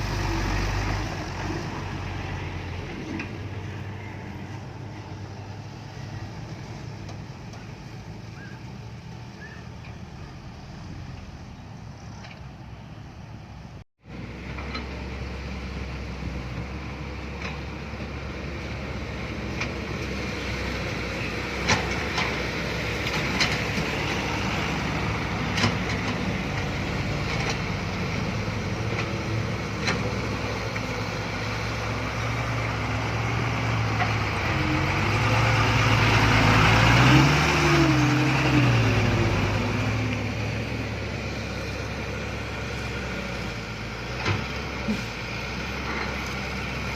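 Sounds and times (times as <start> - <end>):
dump truck engine running: 0.0 - 46.9.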